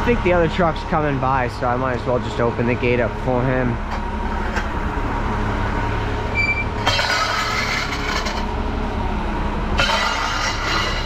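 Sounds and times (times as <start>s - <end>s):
garbage truck engine running: 0.0s - 11.0s.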